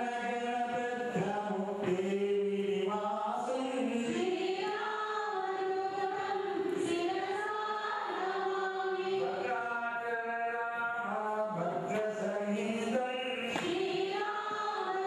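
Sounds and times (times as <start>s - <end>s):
group chanting in unison: 0.0s - 10.1s, 11.0s - 15.0s.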